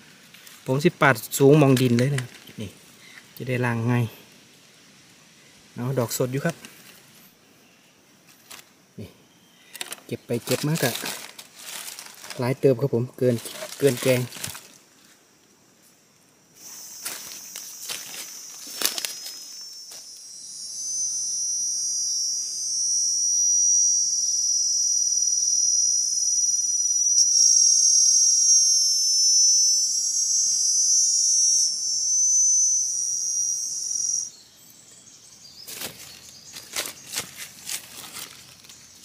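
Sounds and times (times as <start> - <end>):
insect buzzing: 0.0 - 39.0.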